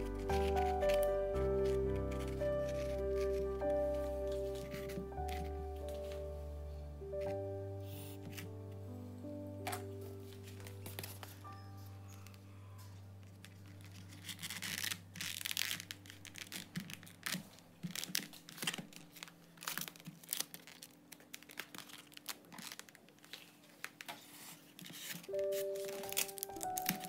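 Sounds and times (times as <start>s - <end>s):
crinkling and tearing: 0.0s - 6.3s, 9.7s - 27.0s.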